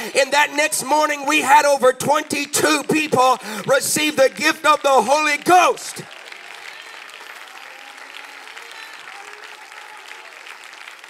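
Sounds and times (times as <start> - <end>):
crowd applauding: 2.0 - 11.0.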